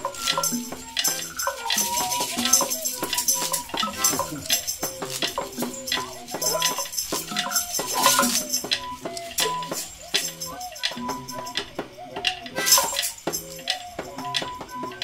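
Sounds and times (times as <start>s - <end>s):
rattling and jangling percussion: 0.0s - 15.0s.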